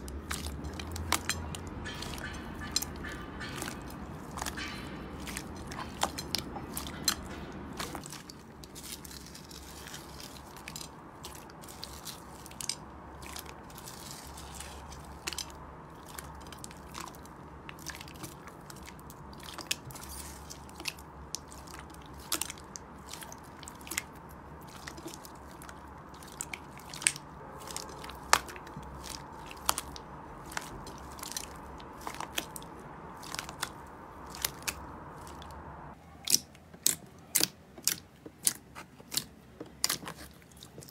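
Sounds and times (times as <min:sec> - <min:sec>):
slime squelching and popping: 0:00.0 - 0:35.6, 0:36.2 - 0:40.9.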